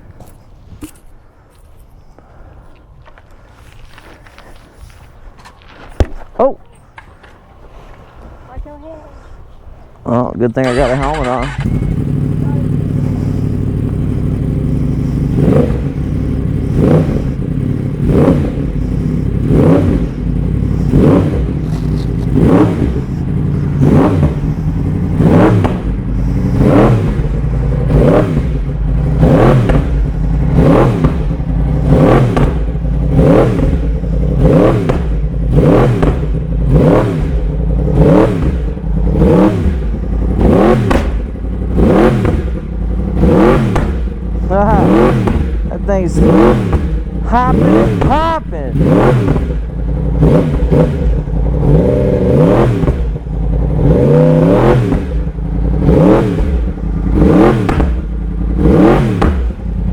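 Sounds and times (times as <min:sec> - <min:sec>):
motorcycle engine revving and popping: 0:10.5 - 0:59.9.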